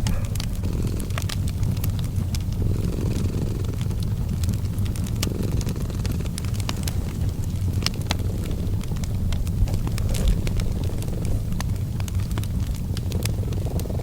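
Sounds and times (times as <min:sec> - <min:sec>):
cat purring: 0:00.0 - 0:14.0
fireplace crackling: 0:00.0 - 0:14.0.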